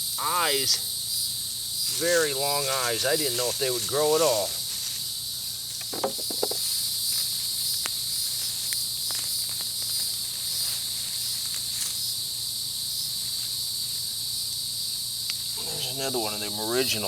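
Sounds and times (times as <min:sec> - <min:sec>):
shrill insect chorus: 0:00.0 - 0:17.0.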